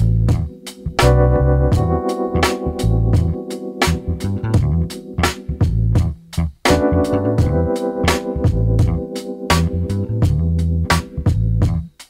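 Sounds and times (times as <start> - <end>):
bass line: 0.0 - 12.0
keyboard chords: 0.0 - 12.0
steady drum beat: 0.0 - 12.0.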